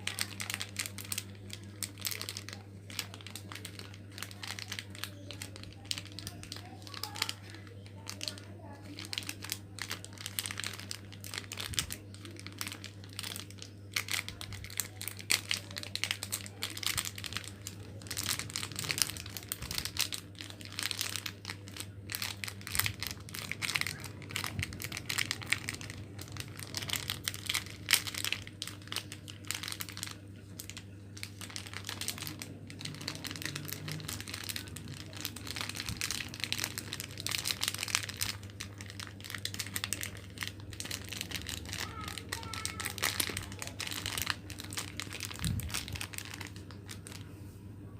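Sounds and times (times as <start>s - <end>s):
plastic wrappers crinkling: 0.0s - 47.4s
steady low hum: 0.0s - 47.9s.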